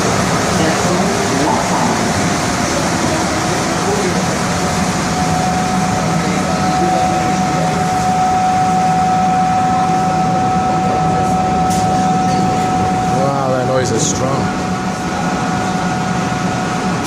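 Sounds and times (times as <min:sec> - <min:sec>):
steady whine: 0:00.0 - 0:17.0
subway train rumble: 0:00.0 - 0:17.0.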